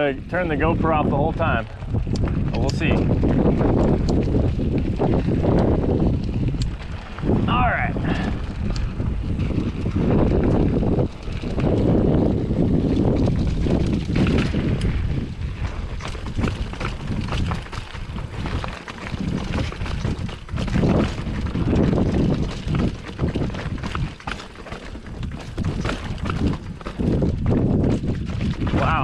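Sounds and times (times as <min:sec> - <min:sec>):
bike clicks and rattles: 0:00.0 - 0:29.0
wind buffeting microphone: 0:00.0 - 0:29.0
tyres crunching over rock: 0:01.2 - 0:29.0.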